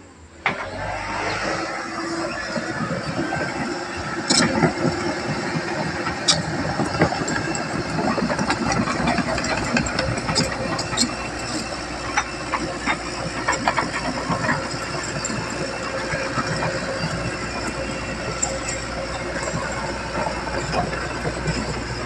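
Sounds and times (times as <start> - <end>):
diesel engine rumble: 0.0 - 22.0.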